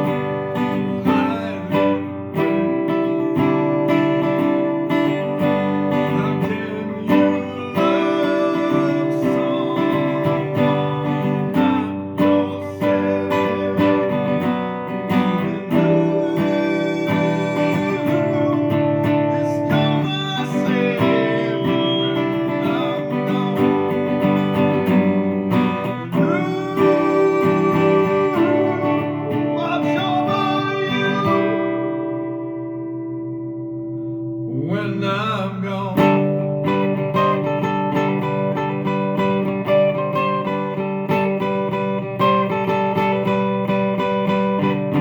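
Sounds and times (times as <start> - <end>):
guitar strummed and picked: 0.0 - 45.0.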